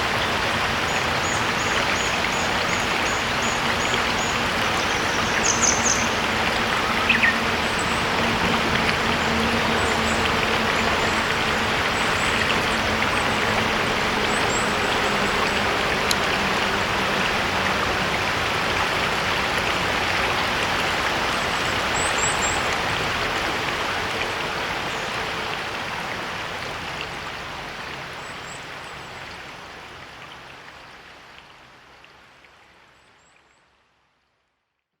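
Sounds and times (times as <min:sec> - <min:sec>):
stream babbling: 0:00.0 - 0:34.0.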